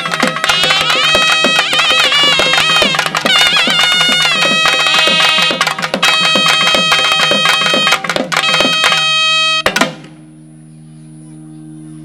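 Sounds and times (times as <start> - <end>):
fast dense drumming: 0.0 - 10.0
reed pipe melody: 0.0 - 10.6.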